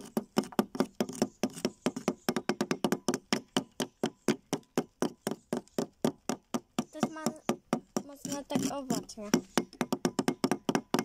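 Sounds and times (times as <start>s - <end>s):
small hammers tapping plaster: 0.0s - 11.0s.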